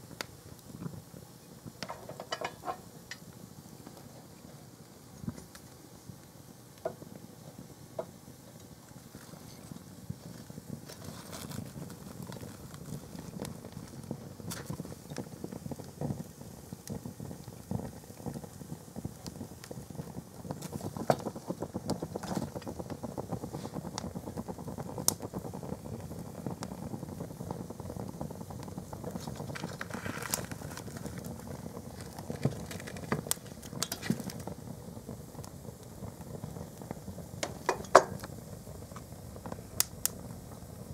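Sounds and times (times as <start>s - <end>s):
fire crackling and popping: 0.0s - 40.9s
sharp snaps in fire: 0.0s - 40.9s.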